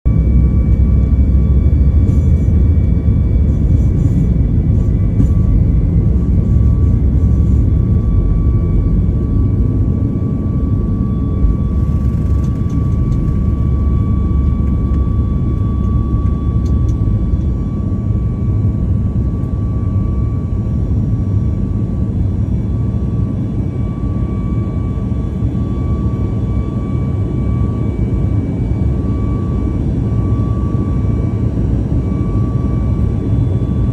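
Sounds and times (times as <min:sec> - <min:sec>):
airplane engines rumbling: 0:00.1 - 0:33.9
high engine whine: 0:00.1 - 0:33.9.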